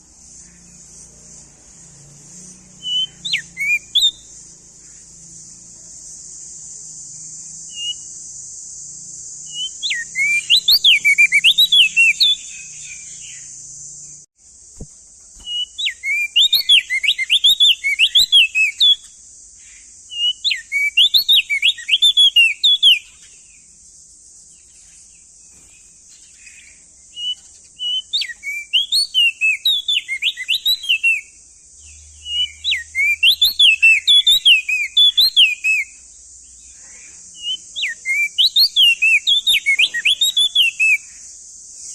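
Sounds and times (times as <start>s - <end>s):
bird singing whistled notes: 0.0s - 41.9s
steady high hiss: 0.0s - 41.9s.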